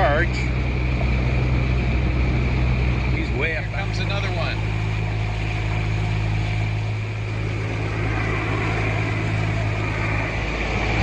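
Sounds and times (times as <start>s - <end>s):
boat engine running: 0.0s - 11.0s
water noise: 0.0s - 11.0s
wind: 0.0s - 11.0s.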